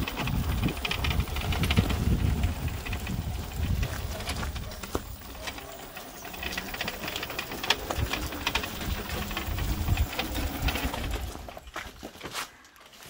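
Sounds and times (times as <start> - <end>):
electric go-kart motor whirring: 0.0 - 11.8.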